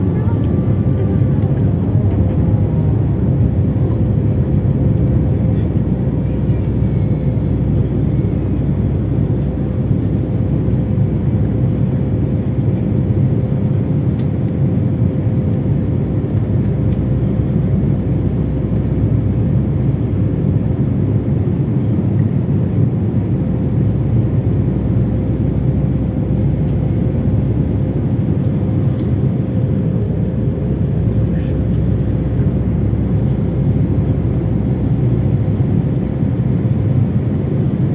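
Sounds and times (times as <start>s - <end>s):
airplane cabin engine rumble: 0.0s - 37.9s.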